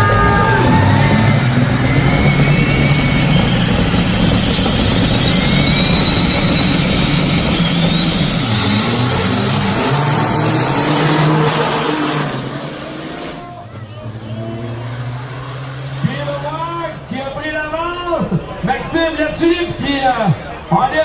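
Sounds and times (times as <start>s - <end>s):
high whine rising in pitch: 0.0s - 20.0s
diesel truck engines at full throttle: 0.0s - 21.0s.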